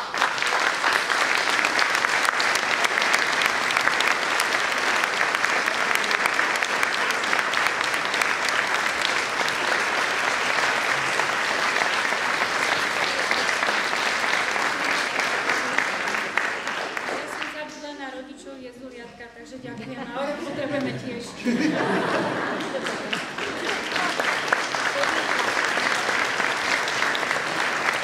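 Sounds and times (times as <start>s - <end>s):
audience applauding: 0.0s - 17.8s, 21.6s - 28.0s.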